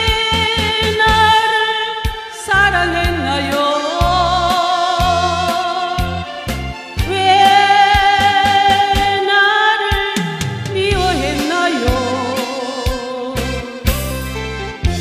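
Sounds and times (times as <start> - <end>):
woman singing into a microphone: 0.0 - 14.0
backing track with steady beat: 0.0 - 15.0.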